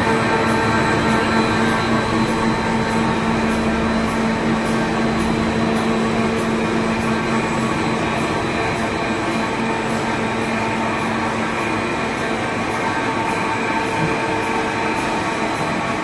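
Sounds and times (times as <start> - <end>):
printing machine hum: 0.0 - 16.0.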